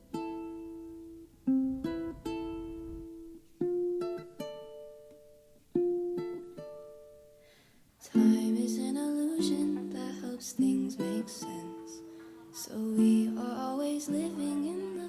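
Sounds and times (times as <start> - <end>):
plucked-string melody: 0.0 - 15.0.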